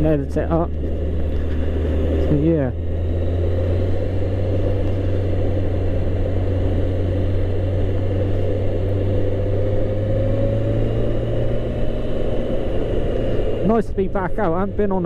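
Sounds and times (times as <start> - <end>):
motorbike engine droning: 0.0 - 15.0.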